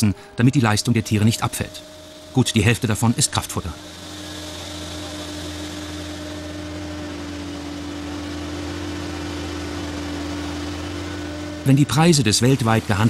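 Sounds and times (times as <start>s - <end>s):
feed-mixing machinery humming: 0.0s - 13.0s.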